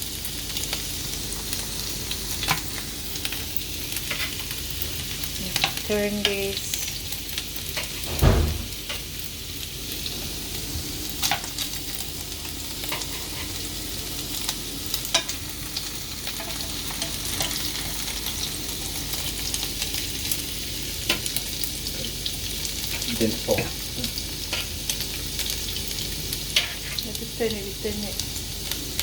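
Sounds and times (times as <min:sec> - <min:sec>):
meatballs sizzling in a pan: 0:00.0 - 0:08.1, 0:08.7 - 0:29.0.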